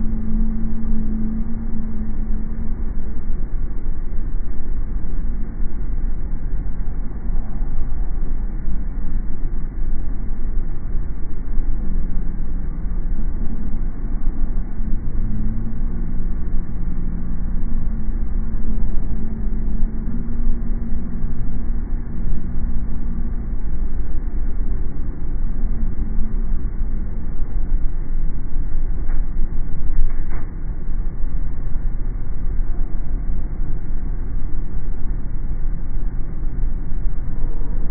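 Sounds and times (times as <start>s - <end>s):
car road and engine rumble: 0.0s - 37.9s
humming drone: 0.0s - 37.9s.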